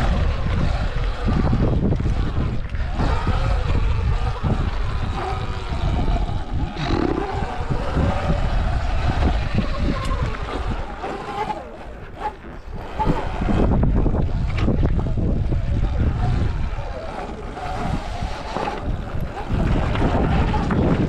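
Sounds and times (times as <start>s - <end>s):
electric motor whine: 0.0s - 21.0s
tyres rumbling over rough ground: 0.0s - 21.0s
wind buffeting microphone: 0.0s - 21.0s.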